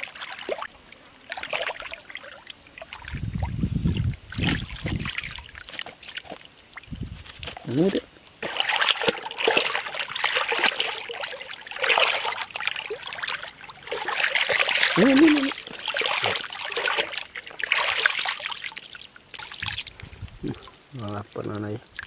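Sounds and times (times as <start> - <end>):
muddy water splashing: 0.0 - 22.0.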